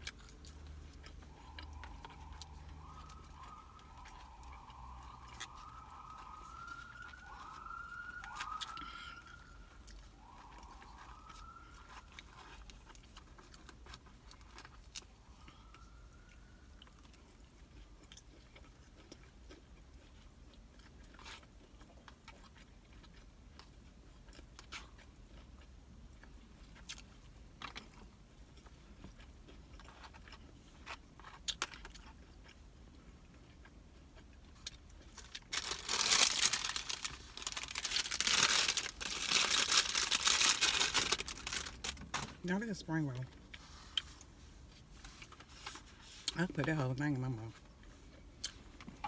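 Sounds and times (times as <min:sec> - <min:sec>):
crunching crisp food: 0:00.0 - 0:42.3.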